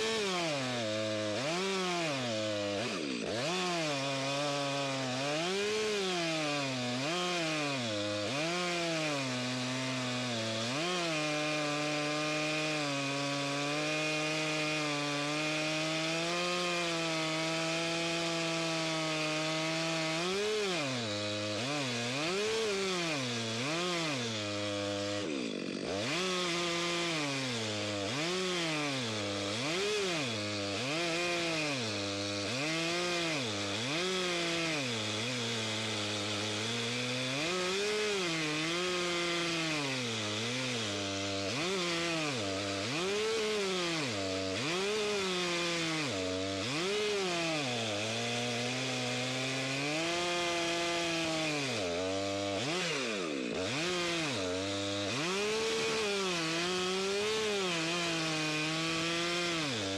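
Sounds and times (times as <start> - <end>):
chainsaw ripping through log: 0.0 - 59.9.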